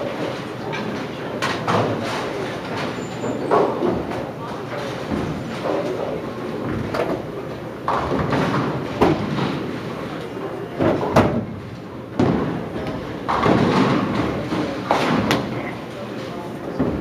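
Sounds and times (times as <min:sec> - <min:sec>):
indistinct talk and murmur: 0:00.0 - 0:17.0.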